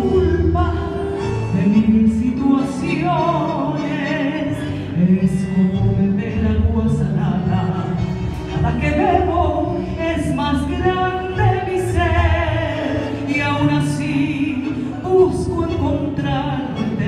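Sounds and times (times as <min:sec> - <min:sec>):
woman singing through microphone: 0:00.0 - 0:17.0.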